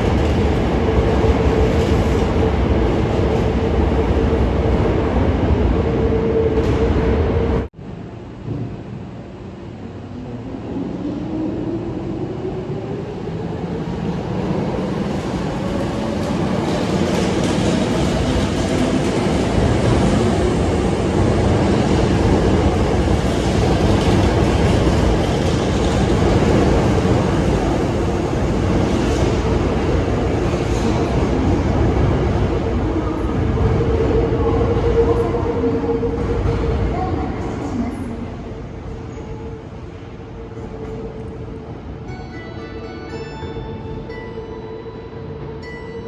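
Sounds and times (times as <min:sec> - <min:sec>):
electric train running past: 0:00.0 - 0:46.0.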